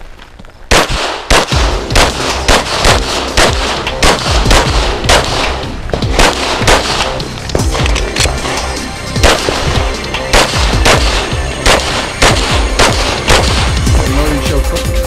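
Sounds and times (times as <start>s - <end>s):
pistol shots with echo: 0.7s - 8.6s, 9.2s - 14.1s.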